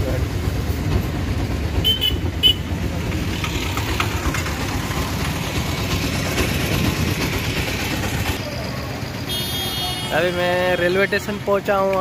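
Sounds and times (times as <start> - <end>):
auto-rickshaw engine rumbling: 0.0 - 12.0.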